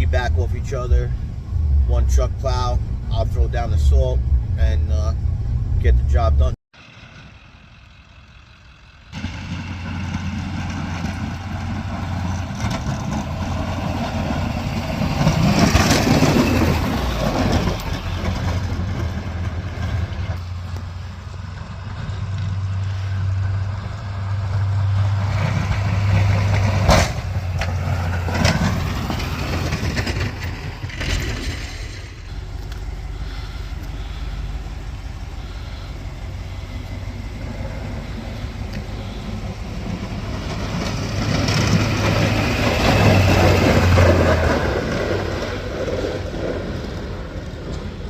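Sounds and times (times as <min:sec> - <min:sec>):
truck engine humming: 0:00.0 - 0:48.0.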